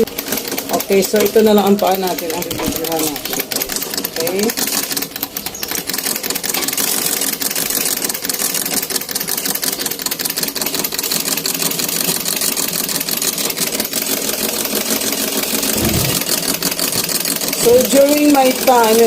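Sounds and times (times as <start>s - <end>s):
treadle sewing machine clattering: 0.0s - 19.0s.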